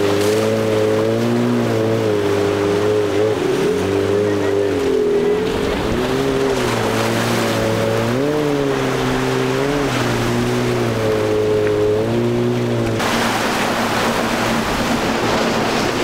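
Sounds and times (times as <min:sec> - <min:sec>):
churning water rushing: 0:00.0 - 0:16.0
outboard motors running: 0:00.0 - 0:16.0.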